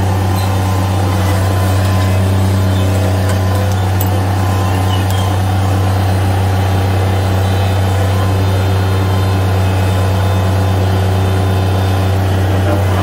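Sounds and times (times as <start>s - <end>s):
loader diesel engine running: 0.0s - 13.0s.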